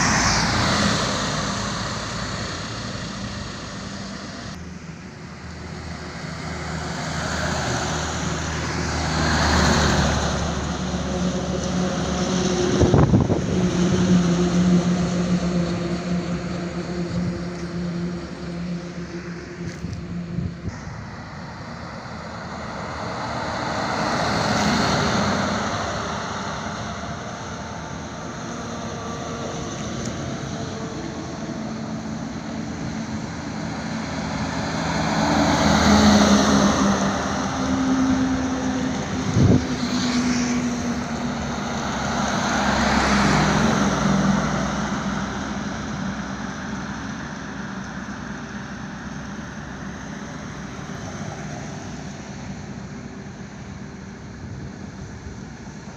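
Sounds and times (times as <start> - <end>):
highway traffic passing: 0.0 - 55.9.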